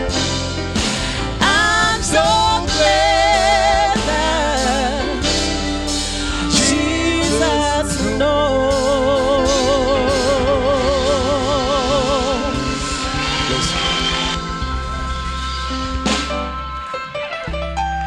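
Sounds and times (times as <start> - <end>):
gospel singing: 0.0 - 15.1
instrumental backing music: 0.0 - 18.0.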